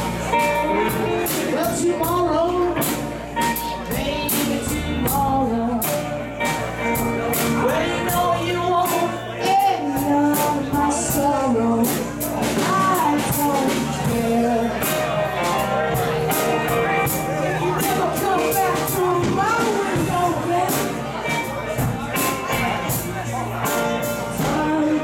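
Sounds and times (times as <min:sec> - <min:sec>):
bass guitar: 0:00.0 - 0:25.0
drum kit with cymbal hits: 0:00.0 - 0:25.0
electric guitar: 0:00.0 - 0:25.0
person singing lead vocal: 0:00.0 - 0:25.0.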